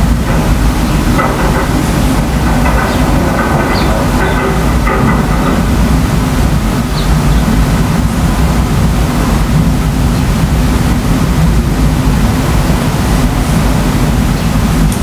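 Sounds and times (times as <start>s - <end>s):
distant thunder rumbling: 0.0s - 15.0s.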